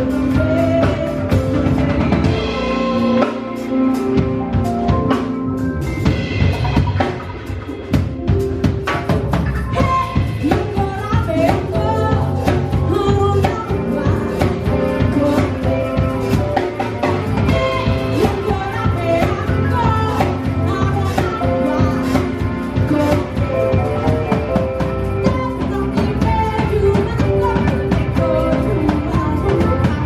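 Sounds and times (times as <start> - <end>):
drum kit beat: 0.0 - 30.0
live band music: 0.0 - 30.0
sliding melodic lead line: 0.0 - 30.0.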